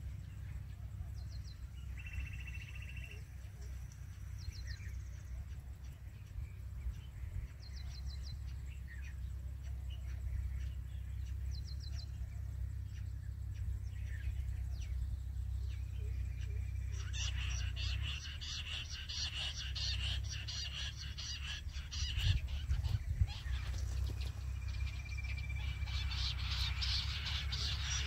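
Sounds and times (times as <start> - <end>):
birds chirping: 0.0 - 28.0
steady low rumble: 0.0 - 28.0
fast twittering chorus: 0.1 - 28.0.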